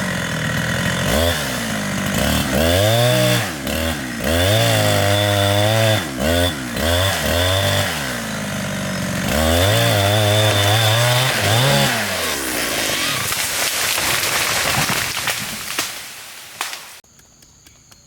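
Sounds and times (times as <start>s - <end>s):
chainsaw cutting a tree: 0.0s - 17.0s.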